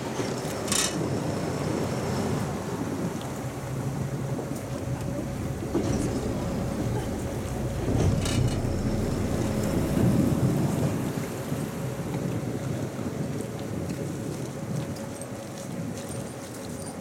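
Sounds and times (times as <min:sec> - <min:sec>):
motorboat engine rumble: 0:00.0 - 0:17.0.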